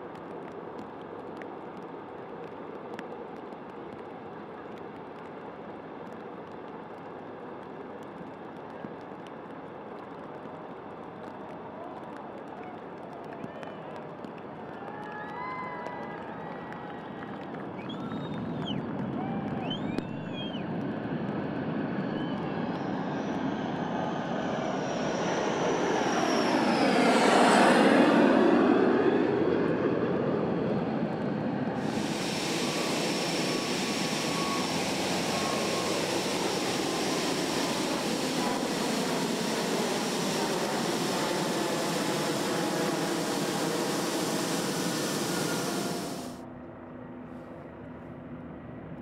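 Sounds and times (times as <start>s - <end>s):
jet engines on takeoff roll: 0.0s - 46.8s
jet engine taxiing with whine: 0.2s - 49.0s.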